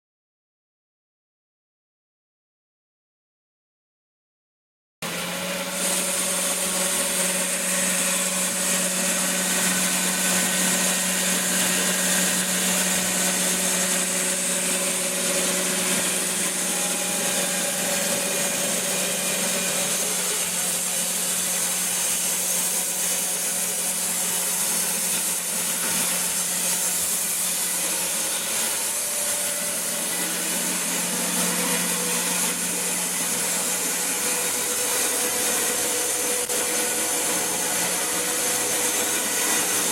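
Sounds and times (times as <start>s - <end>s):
band saw cutting timber: 5.0s - 39.9s.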